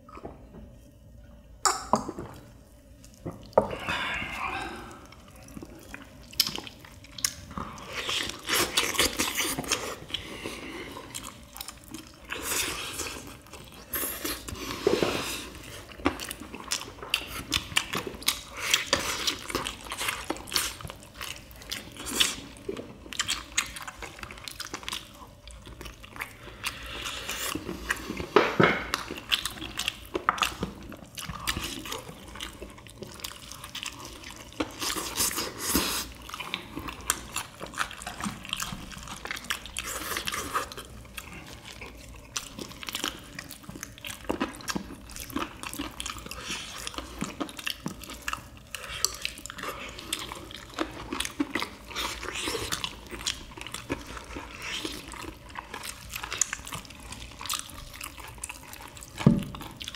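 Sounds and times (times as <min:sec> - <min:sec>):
chewing and slurping: 0:02.1 - 0:59.9.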